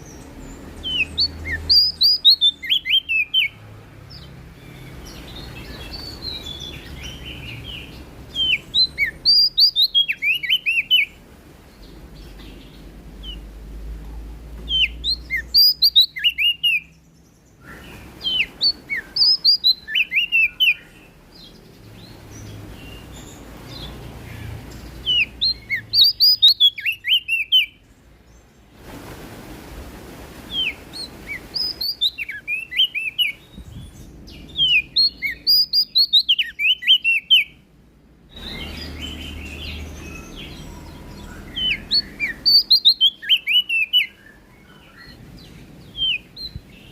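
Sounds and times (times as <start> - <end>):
warbler singing high notes: 0.0 - 11.2, 14.7 - 28.7, 30.4 - 37.6, 38.3 - 46.9.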